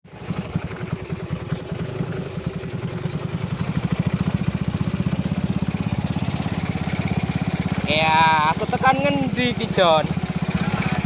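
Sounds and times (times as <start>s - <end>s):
motorcycle engine puttering: 0.1s - 11.0s.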